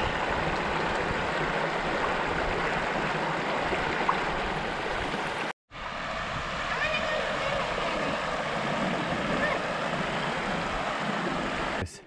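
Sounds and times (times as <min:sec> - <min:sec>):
river water rushing over rocks: 0:00.0 - 0:11.8.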